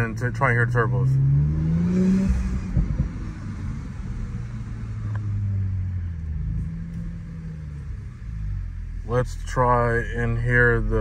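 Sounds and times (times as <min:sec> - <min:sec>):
car engine idling: 0:00.0 - 0:01.6, 0:02.2 - 0:11.0.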